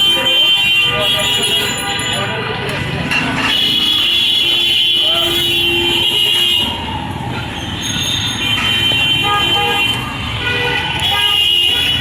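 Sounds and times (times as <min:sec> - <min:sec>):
vehicle horns honking: 0:00.0 - 0:02.4, 0:03.4 - 0:06.8, 0:08.0 - 0:12.0
road traffic din: 0:00.0 - 0:12.0.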